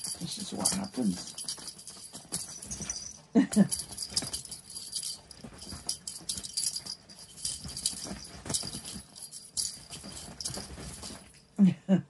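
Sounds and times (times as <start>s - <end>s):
blankets rustling: 0.0s - 11.6s
toy jingling and rattling: 0.0s - 11.6s.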